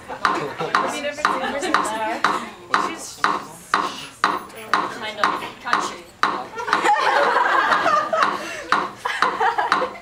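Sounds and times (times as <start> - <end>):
steady ticking taps: 0.2 - 10.0.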